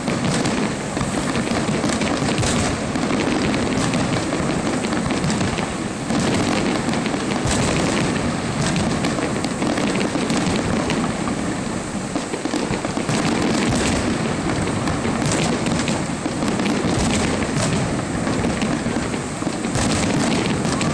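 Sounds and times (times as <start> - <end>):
fireworks bursting and crackling: 0.0 - 20.9
sharp firework bangs: 0.0 - 20.9.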